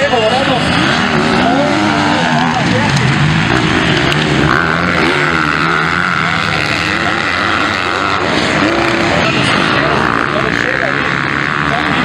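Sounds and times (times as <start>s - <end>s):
motocross engines revving: 0.0s - 12.0s.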